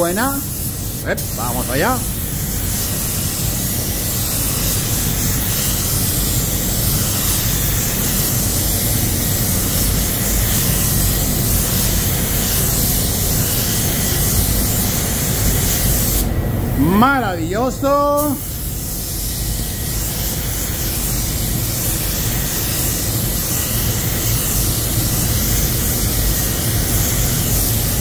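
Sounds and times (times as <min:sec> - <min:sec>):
spray gun hissing: 0:00.0 - 0:28.0.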